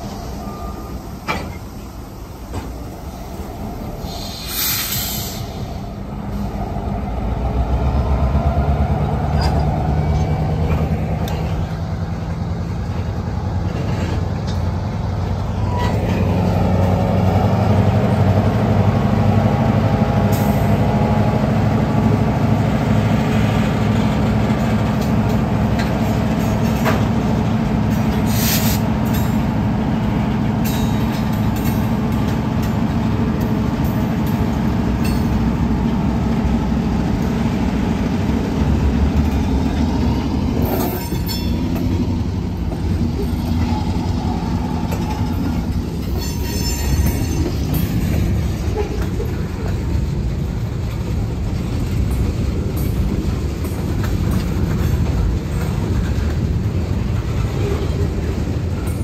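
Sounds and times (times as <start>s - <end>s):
diesel locomotive engine throbbing: 0.0s - 59.0s
railcars rolling on rails: 0.0s - 59.0s.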